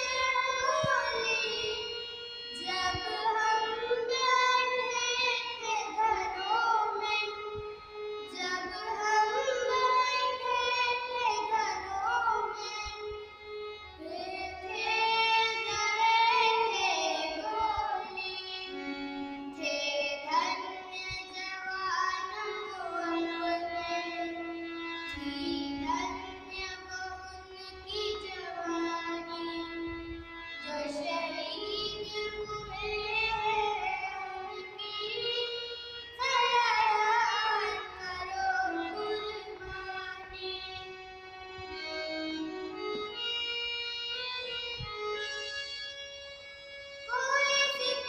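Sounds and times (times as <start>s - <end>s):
girl singing: 0.0s - 41.0s, 47.0s - 48.0s
harmonium playing: 0.0s - 48.0s.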